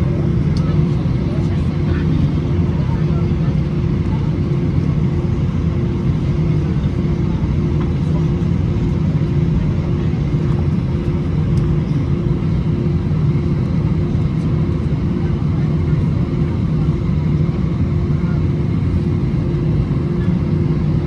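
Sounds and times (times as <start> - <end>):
aircraft cabin rumble: 0.0 - 21.0
mid-pitched hum: 0.0 - 21.0.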